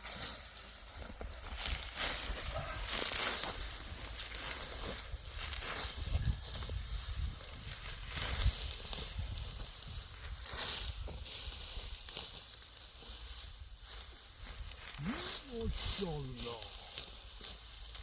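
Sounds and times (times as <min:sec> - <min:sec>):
dry wheat stalks swishing: 0:00.0 - 0:18.0.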